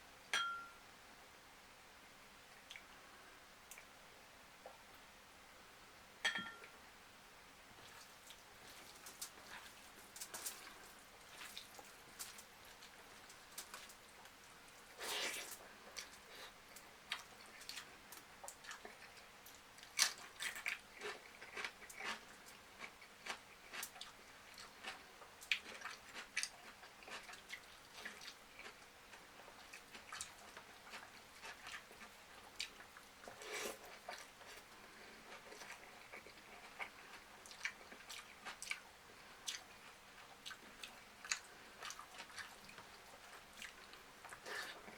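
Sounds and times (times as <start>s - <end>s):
person chewing crunchy food: 7.8s - 14.3s, 14.9s - 44.9s.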